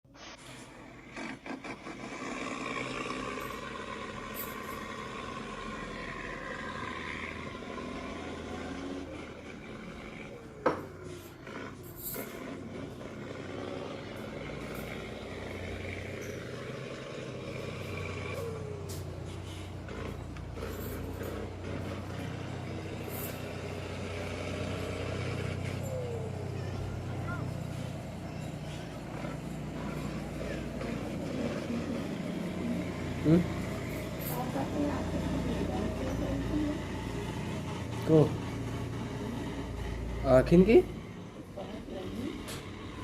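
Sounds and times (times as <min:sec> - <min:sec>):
truck engine running: 0:00.1 - 0:43.0.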